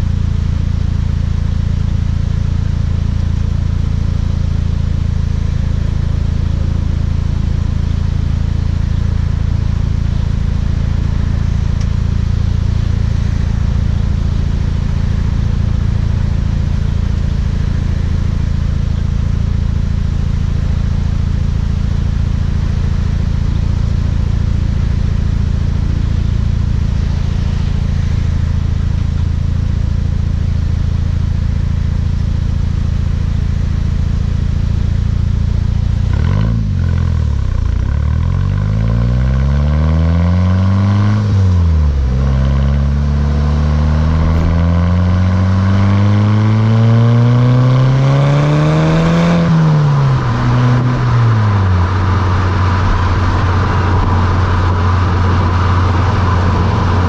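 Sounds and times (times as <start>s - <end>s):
car exhaust droning: 0.0s - 57.0s.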